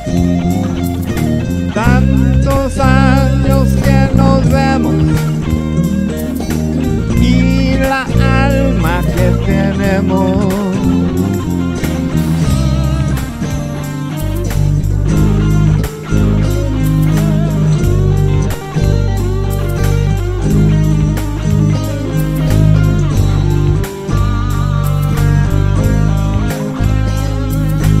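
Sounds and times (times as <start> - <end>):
rock ballad guitars and bass: 0.0 - 28.0.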